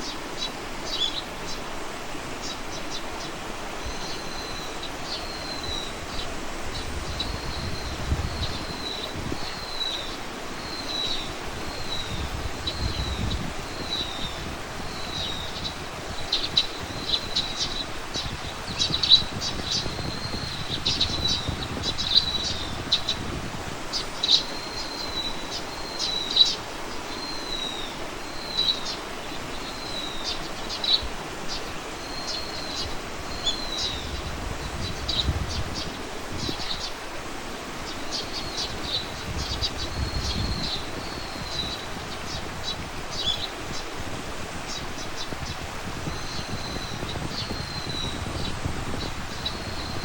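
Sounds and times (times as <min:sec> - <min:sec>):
steady background hiss: 0:00.0 - 0:50.0.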